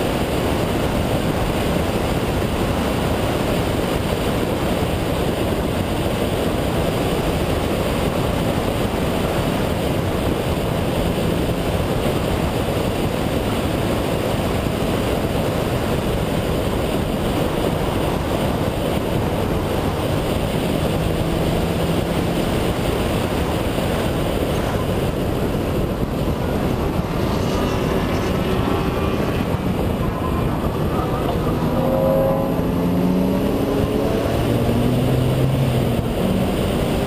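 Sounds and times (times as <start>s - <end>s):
rotary car engine at speed: 0.0s - 37.0s
wind and road noise: 0.0s - 37.0s.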